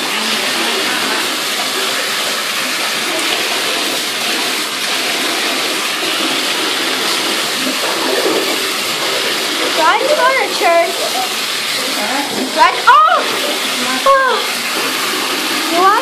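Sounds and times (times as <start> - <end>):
water running into a bathtub: 0.0 - 16.0.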